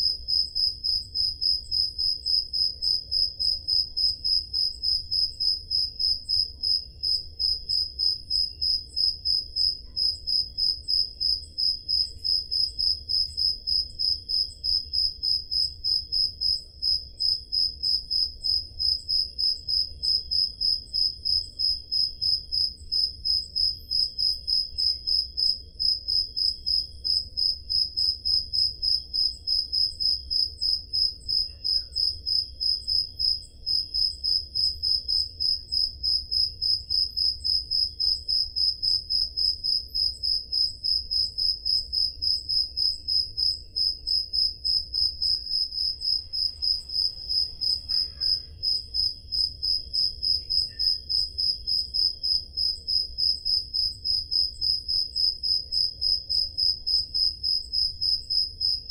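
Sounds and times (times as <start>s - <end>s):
faint crickets chirping: 0.0s - 58.9s
loud cricket chirping: 0.0s - 58.9s.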